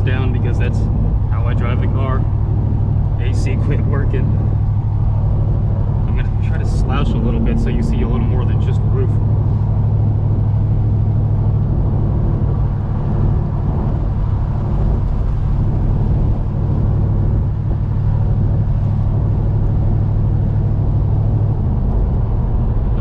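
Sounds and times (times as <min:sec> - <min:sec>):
car exhaust drone: 0:00.0 - 0:23.0
road noise: 0:00.0 - 0:23.0
wind noise: 0:00.0 - 0:23.0.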